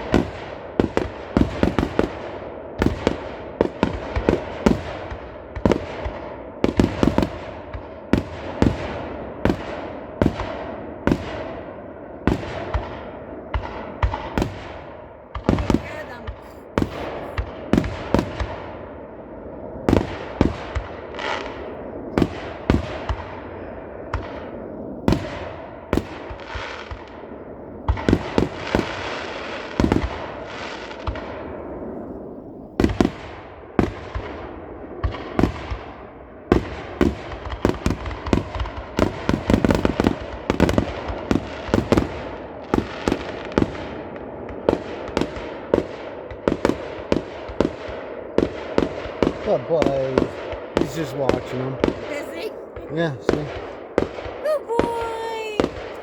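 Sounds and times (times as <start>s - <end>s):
fireworks bangs and booms: 0.0s - 56.0s
fireworks hissing crackling trails: 0.0s - 56.0s.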